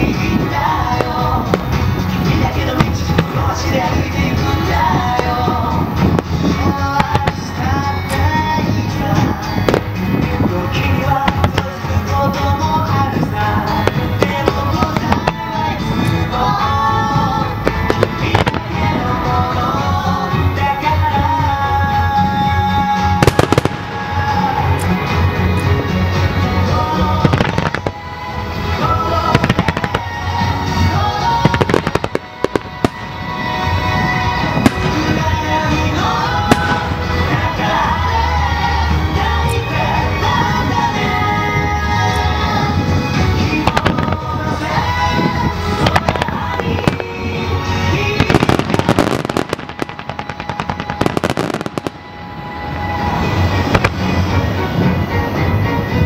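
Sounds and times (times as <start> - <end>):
fireworks bangs and crackles: 0.0 - 56.0
music: 0.0 - 56.0.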